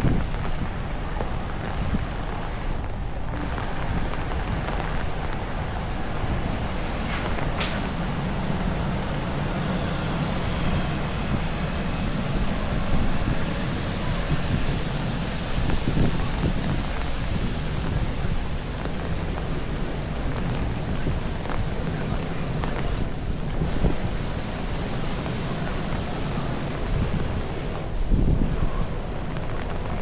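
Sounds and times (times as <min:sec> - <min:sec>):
heavy rain: 0:00.0 - 0:30.0
wind buffeting microphone: 0:00.0 - 0:30.0.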